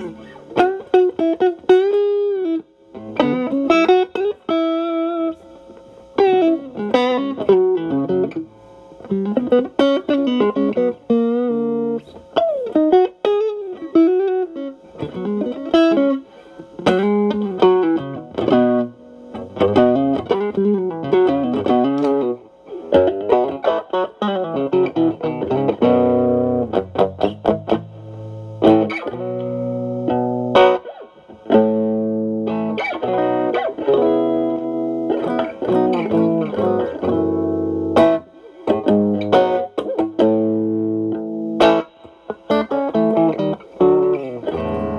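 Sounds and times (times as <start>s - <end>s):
overdriven electric guitar: 0.0s - 44.9s.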